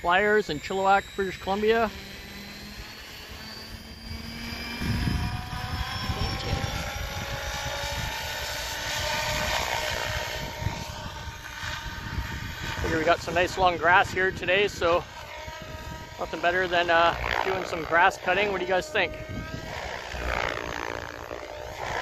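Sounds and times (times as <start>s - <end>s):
electric model helicopter whine: 0.0s - 22.0s.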